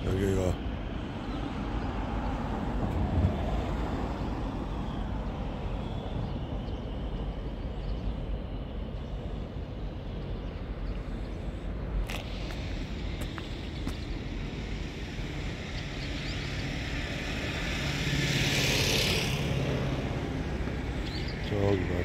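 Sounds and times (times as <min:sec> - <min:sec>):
city road traffic rumble: 0:00.0 - 0:22.0.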